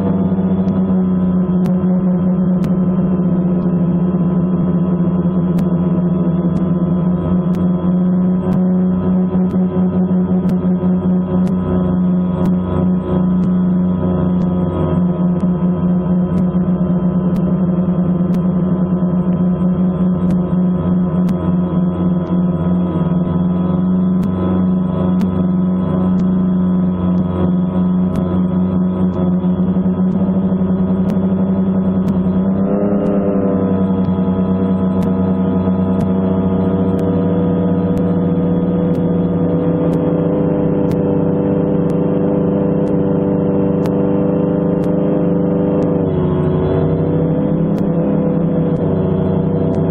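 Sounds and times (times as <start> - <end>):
drone propellers humming: 0.0 - 49.9.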